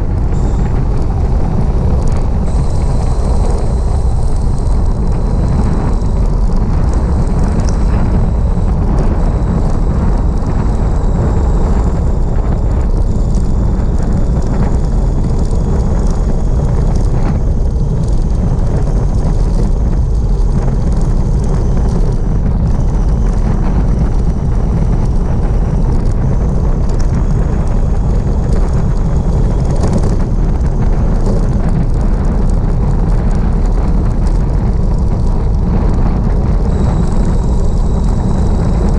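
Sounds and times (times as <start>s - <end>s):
faint high whine: 0.0s - 38.9s
wind buffeting microphone: 0.0s - 38.9s.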